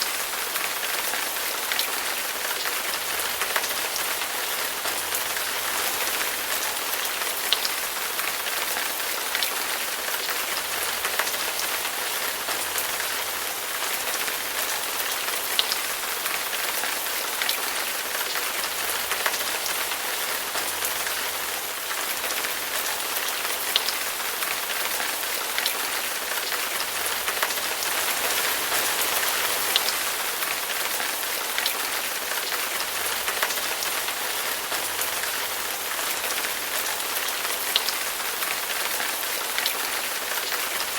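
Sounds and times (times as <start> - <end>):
steady rain splashing: 0.0 - 40.9.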